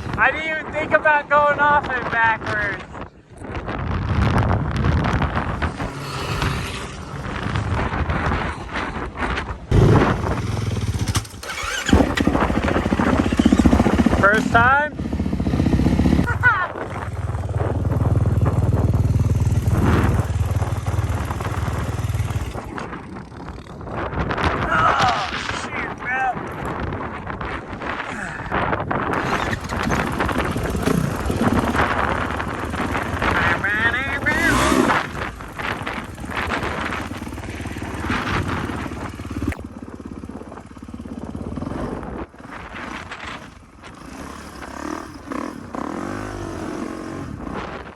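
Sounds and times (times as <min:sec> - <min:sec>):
motorcycle engine running: 0:01.8 - 0:25.5, 0:26.1 - 0:47.9.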